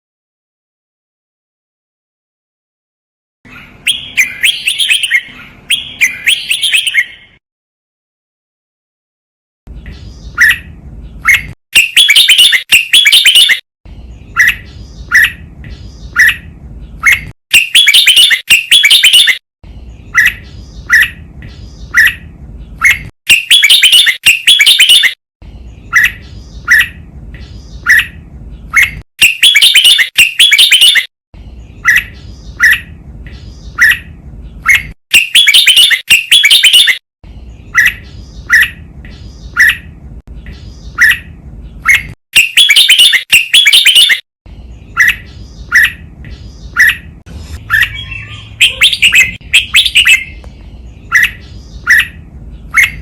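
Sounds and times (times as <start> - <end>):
bulbul singing: 3.5 - 7.4, 9.7 - 53.0.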